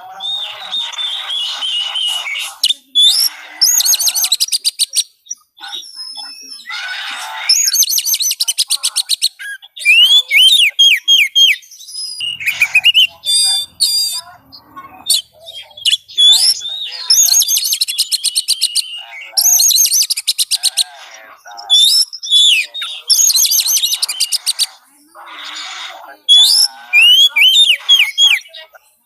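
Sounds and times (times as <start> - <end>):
songbird singing trills and whistles: 0.0 - 29.0.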